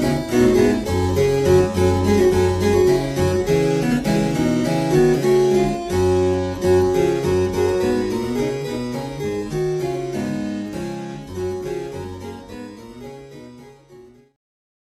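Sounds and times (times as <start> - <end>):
harpsichord-like keyboard melody: 0.0 - 14.4.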